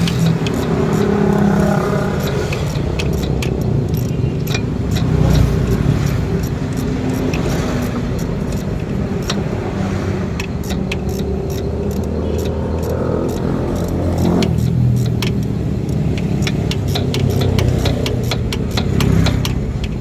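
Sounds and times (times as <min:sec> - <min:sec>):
car engine idling: 0:00.0 - 0:20.0
light metallic clicks: 0:00.0 - 0:20.0.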